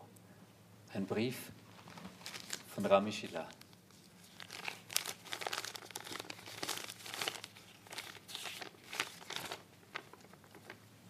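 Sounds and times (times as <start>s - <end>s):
paper crinkling: 1.7s - 10.8s.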